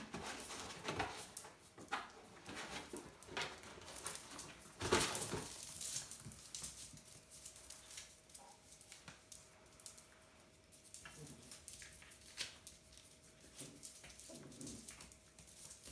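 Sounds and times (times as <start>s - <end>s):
paws pattering on cork floor: 0.0s - 15.9s
puppies play-fighting: 0.0s - 15.9s.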